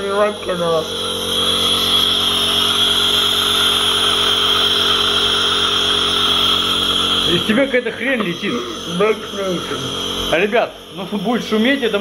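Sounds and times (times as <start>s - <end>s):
nebulizer motor hum: 0.0s - 12.0s.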